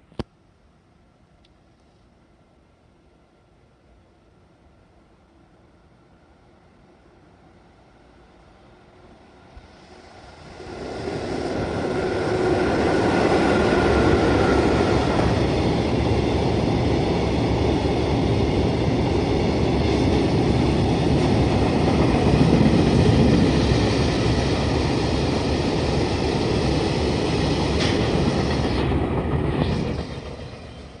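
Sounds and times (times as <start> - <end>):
electric locomotive whine: 4.6 - 31.0.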